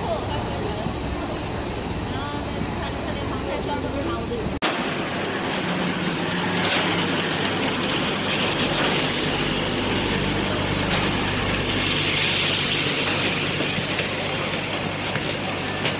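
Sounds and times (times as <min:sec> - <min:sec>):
packaging machinery hum and hiss: 0:00.0 - 0:15.9.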